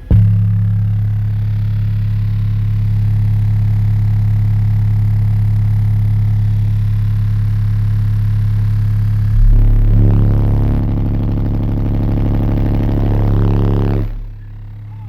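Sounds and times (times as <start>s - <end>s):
subwoofers playing low bass tone: 0.0s - 15.0s.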